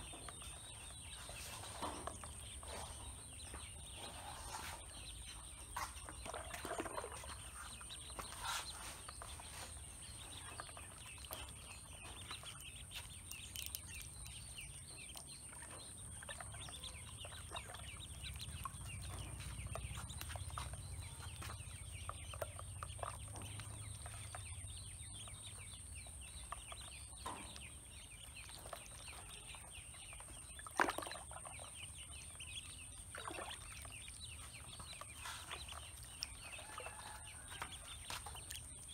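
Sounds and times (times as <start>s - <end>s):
ducklings peeping: 0.0s - 38.9s.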